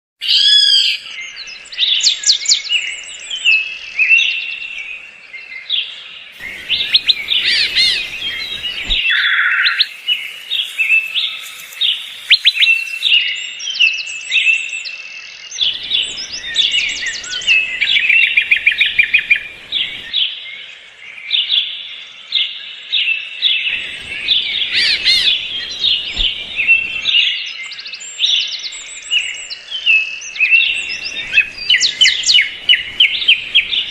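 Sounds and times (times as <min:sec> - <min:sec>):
birds chirping and trilling: 0:00.2 - 0:33.9.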